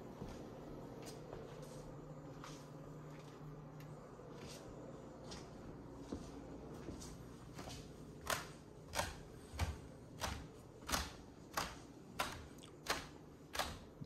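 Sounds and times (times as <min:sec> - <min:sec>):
footsteps on carpeted stairs: 0:00.0 - 0:14.0.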